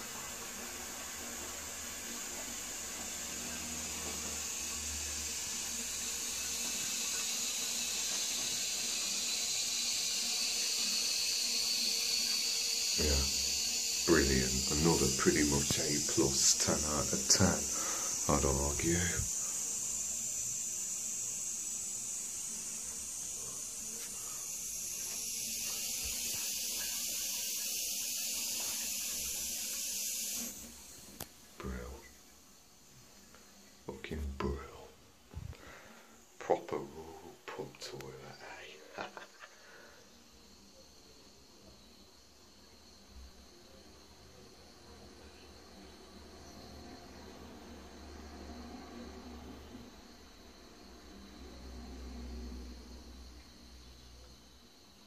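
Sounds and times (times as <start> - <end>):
toilet cistern refilling hiss: 0.0 - 55.0.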